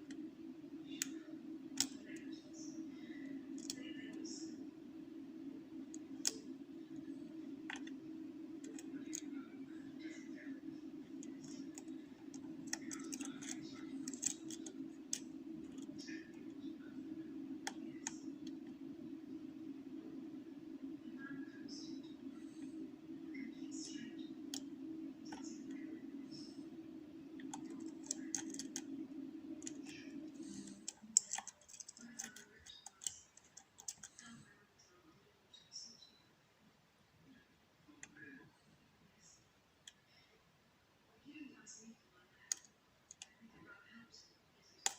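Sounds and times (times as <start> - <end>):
low hum: 0.0 - 36.3.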